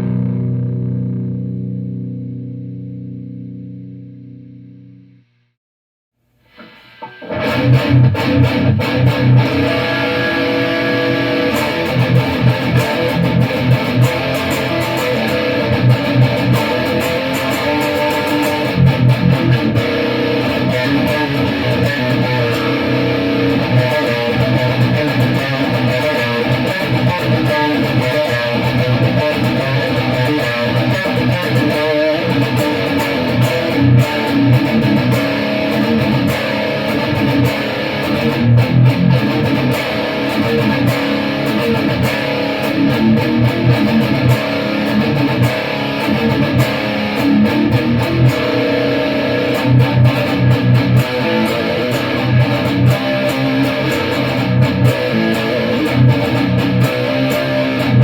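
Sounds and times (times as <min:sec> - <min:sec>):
electric guitar riffing: 0:00.0 - 0:05.2, 0:06.4 - 0:58.0.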